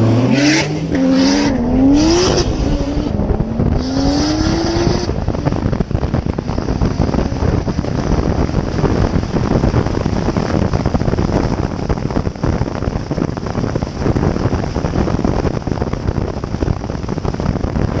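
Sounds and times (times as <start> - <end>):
car engine rumble: 0.0 - 18.0
wind and road noise: 0.0 - 18.0.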